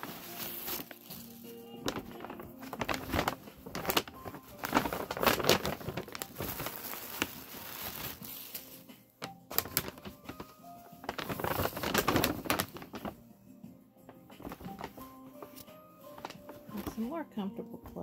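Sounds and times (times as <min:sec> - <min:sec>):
paper bag and tissue rustling: 0:00.0 - 0:13.3, 0:14.0 - 0:18.0.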